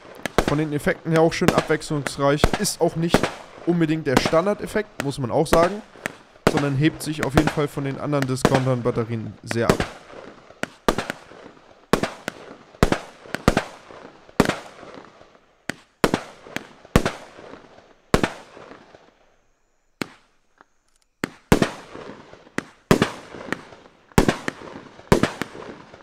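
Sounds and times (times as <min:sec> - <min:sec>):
firework bangs: 0:00.0 - 0:19.4, 0:20.0 - 0:26.0.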